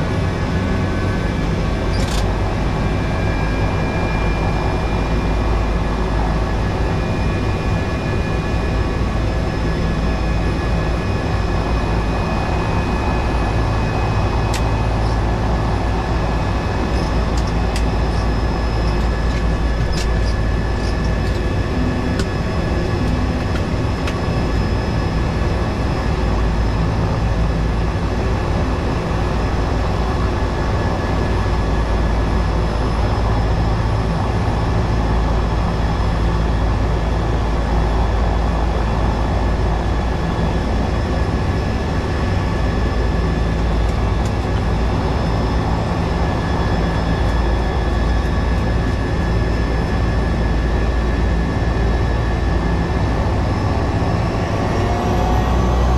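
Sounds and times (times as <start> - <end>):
turboprop engine droning: 0.0 - 55.9.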